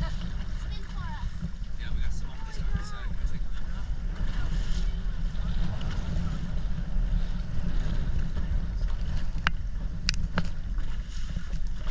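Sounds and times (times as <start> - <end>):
boat engine running: 0.0 - 11.9
wind buffeting microphone: 0.0 - 11.9.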